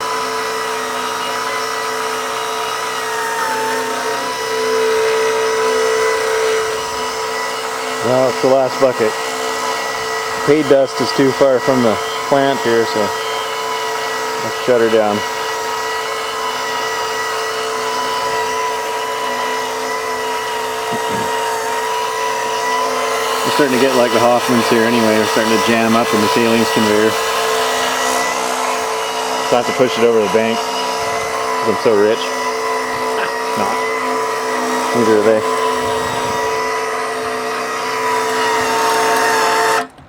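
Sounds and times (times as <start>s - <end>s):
small electric motors whining: 0.0s - 40.0s.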